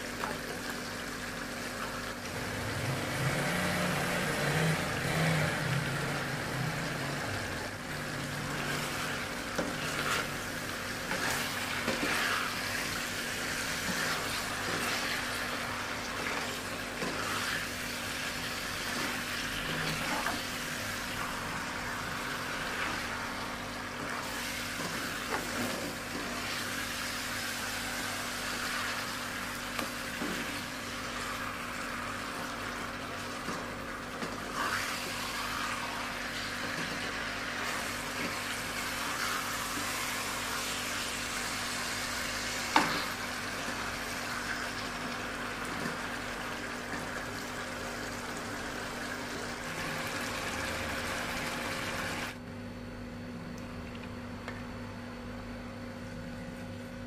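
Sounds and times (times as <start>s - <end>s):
food sizzling in hot oil: 0.0s - 52.3s.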